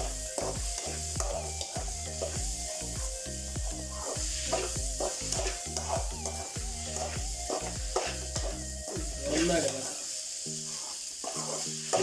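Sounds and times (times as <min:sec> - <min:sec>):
rice sizzling in a pan: 0:00.0 - 0:12.0
spatula scraping a pan: 0:00.0 - 0:12.0.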